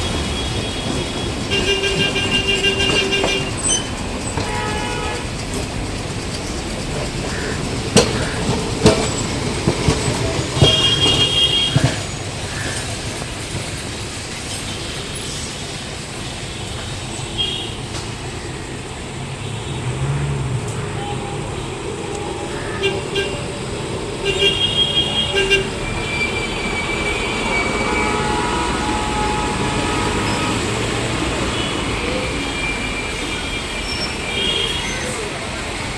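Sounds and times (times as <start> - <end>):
city traffic noise: 0.0 - 35.9
tram rumbling on rails: 0.0 - 35.9.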